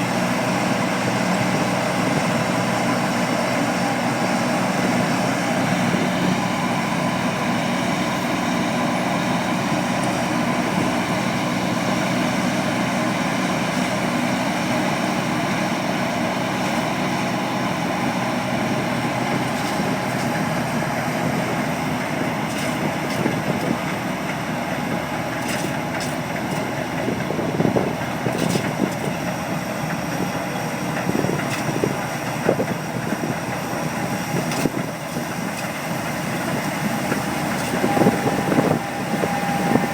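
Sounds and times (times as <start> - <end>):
diesel engine of farm machinery: 0.0 - 39.9.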